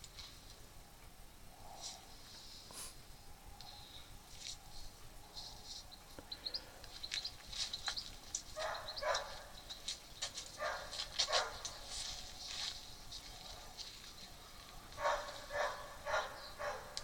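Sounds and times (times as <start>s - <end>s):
small birds chirping: 1.0s - 17.0s.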